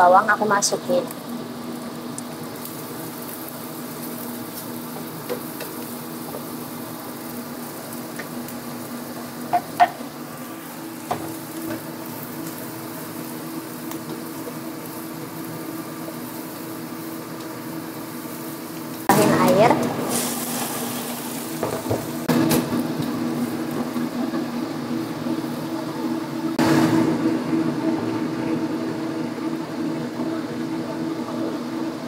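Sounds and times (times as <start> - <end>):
food sizzling in a wok: 0.1 - 29.2.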